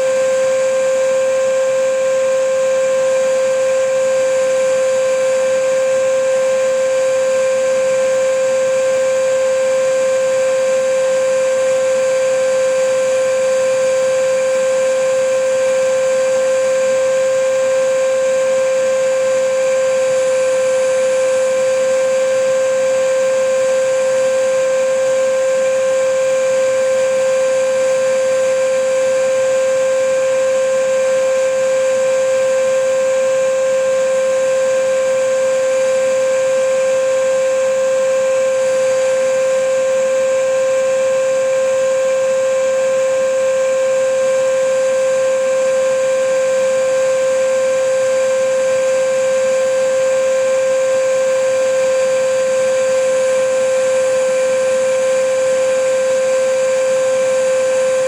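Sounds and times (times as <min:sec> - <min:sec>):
vacuum cleaner motor running: 0:00.0 - 0:58.0.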